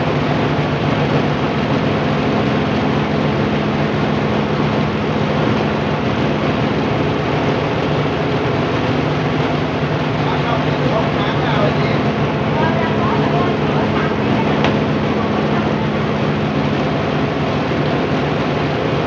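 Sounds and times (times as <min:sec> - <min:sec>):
rice milling machine running: 0:00.0 - 0:19.0.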